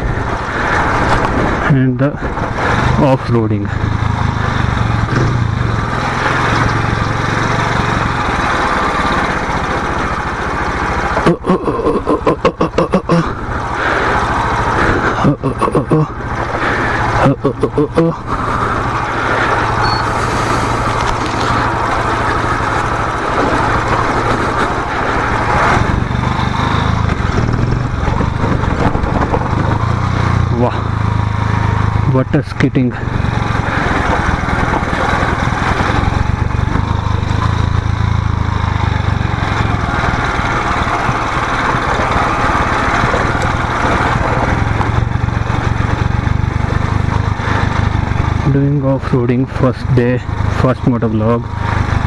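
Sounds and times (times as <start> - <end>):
steady rushing noise: 0.0 - 11.4, 13.3 - 52.0
motorcycle engine running: 0.0 - 52.0.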